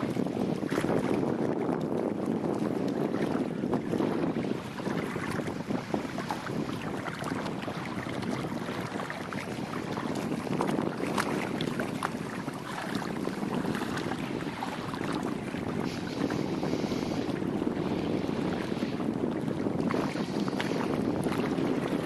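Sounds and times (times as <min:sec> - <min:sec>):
water splashing against hull: 0:00.0 - 0:22.0
wind buffeting microphone: 0:00.0 - 0:22.0.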